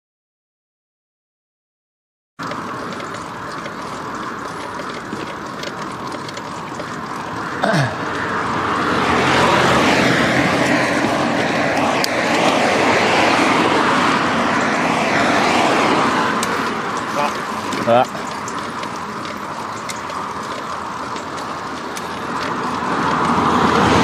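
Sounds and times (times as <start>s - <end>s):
road and wind noise: 2.4s - 24.0s
traffic passing: 2.4s - 24.0s.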